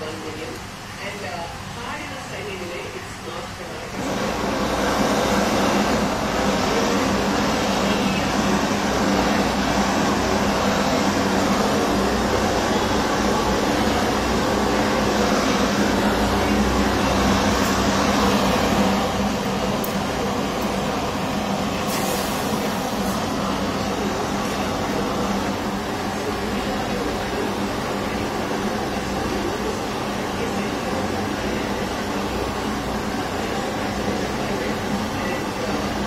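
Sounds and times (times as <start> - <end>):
blowtorch flame hissing: 3.6 - 36.0.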